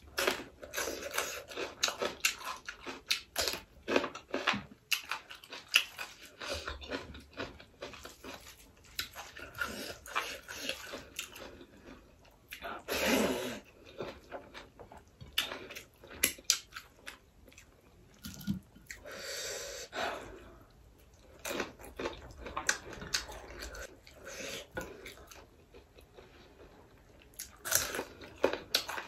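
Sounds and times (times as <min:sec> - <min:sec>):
person chewing wetly: 0:00.2 - 0:12.9, 0:13.6 - 0:19.0, 0:20.7 - 0:29.0.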